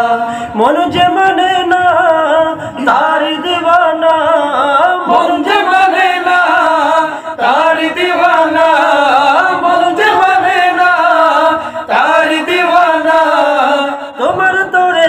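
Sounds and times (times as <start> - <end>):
men singing in chorus: 0.0 - 15.0.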